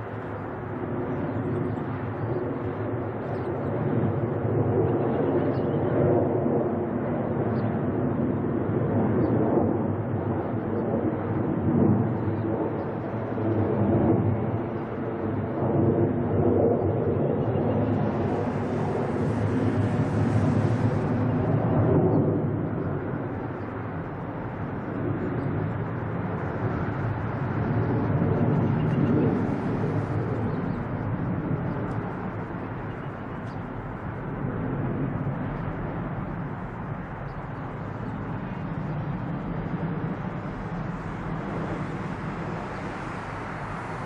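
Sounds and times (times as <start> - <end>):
jet engines roaring: 0.0 - 44.0.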